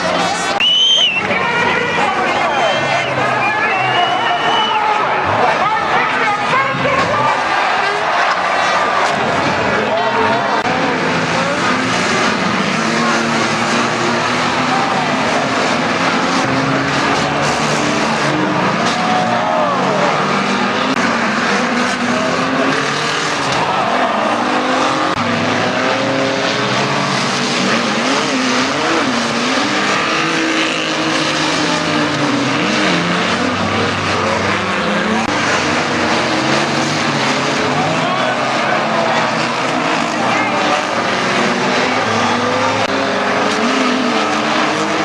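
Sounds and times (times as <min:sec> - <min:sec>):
racing car engines revving: 0:00.0 - 0:45.0.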